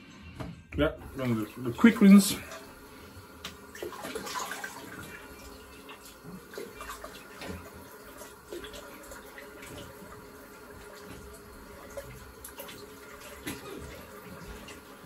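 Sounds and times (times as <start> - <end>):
water splashing at a sink: 1.0 - 15.0.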